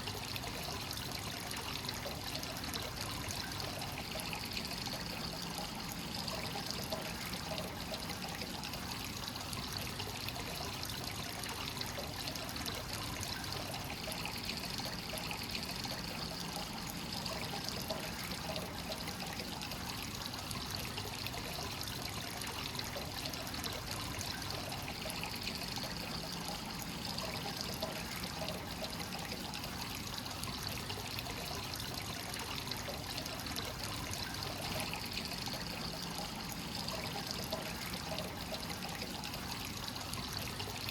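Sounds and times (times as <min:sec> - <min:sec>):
water pouring into stone bath: 0:00.0 - 0:40.9.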